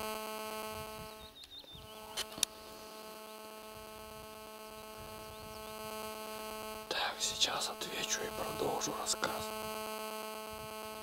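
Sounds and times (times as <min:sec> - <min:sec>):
mobile phone interference buzz: 0:00.0 - 0:11.0.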